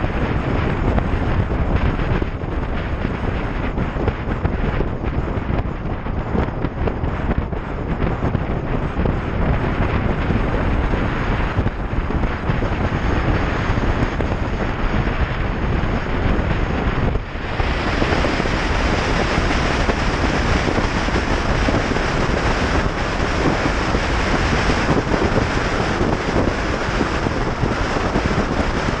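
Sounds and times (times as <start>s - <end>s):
wind rushing on microphone: 0.0s - 29.0s.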